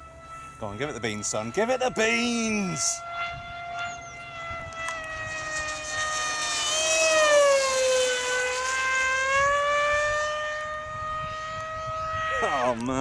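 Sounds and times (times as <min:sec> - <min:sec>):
electric motor and propeller whine: 0:00.0 - 0:13.0.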